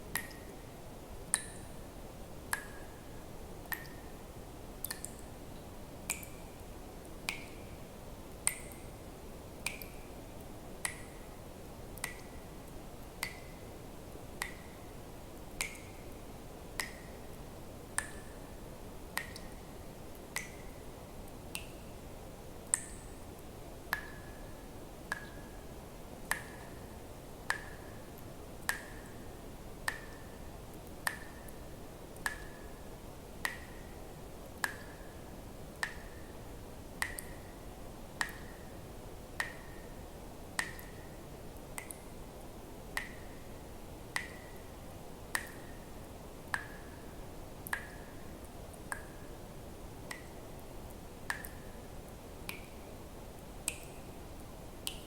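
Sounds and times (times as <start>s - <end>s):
faint steady hiss: 0.0s - 55.0s
water dripping plinks: 0.1s - 7.8s, 8.4s - 13.8s, 14.4s - 22.0s, 22.6s - 36.4s, 37.0s - 37.6s, 38.2s - 38.7s, 39.4s - 40.0s, 40.6s - 41.2s, 41.8s - 42.2s, 42.9s - 43.4s, 44.1s - 44.7s, 45.3s - 45.9s, 46.5s - 47.0s, 47.6s - 49.3s, 50.0s - 51.8s, 52.4s - 54.1s.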